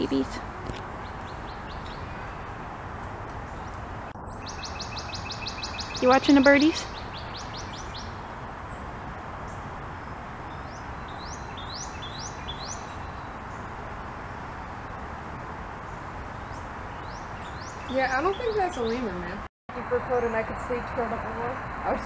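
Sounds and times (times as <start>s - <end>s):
small birds chirping: 0.0s - 14.9s, 15.7s - 19.4s.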